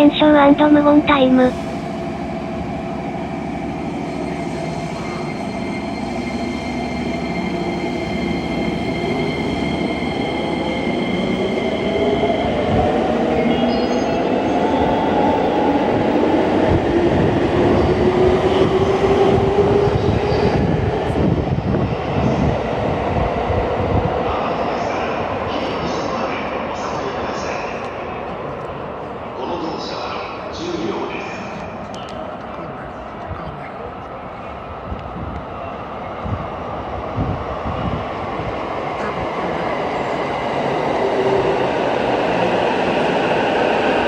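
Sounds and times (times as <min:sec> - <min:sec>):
rumble of train wheels: 0:00.0 - 0:44.0.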